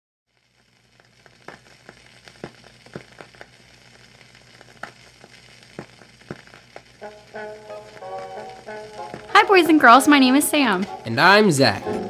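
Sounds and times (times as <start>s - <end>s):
record crackle pops and clicks: 0.3s - 11.2s
steady hiss: 0.3s - 12.0s.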